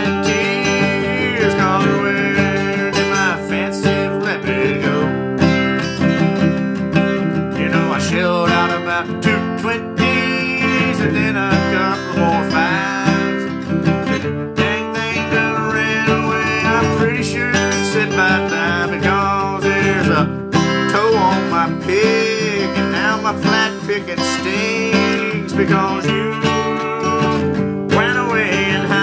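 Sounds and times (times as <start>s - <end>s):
acoustic guitar strummed and picked: 0.0s - 29.0s.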